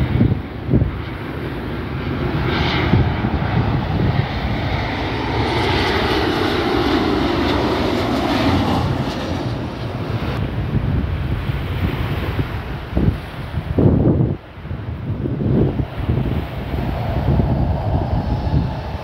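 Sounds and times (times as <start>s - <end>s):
jet airliner engine noise: 0.0s - 19.0s
wind buffeting microphone: 0.0s - 19.0s.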